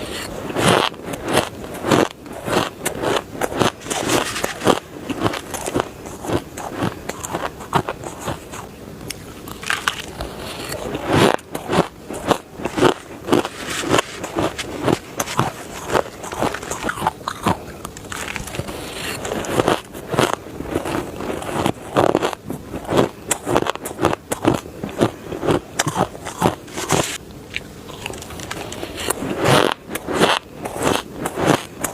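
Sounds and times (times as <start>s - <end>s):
chewing crunchy shaved ice: 0.0s - 31.9s.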